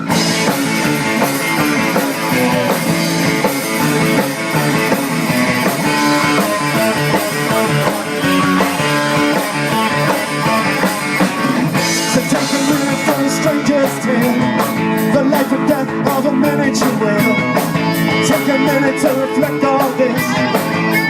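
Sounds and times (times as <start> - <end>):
loud electric guitars: 0.0 - 21.0
steady drum beat: 0.0 - 21.0.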